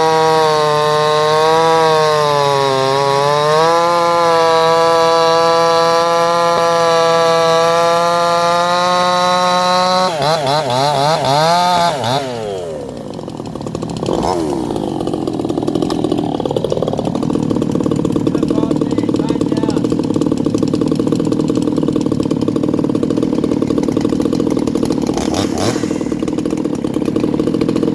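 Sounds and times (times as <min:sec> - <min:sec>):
chainsaw engine running: 0:00.0 - 0:27.9.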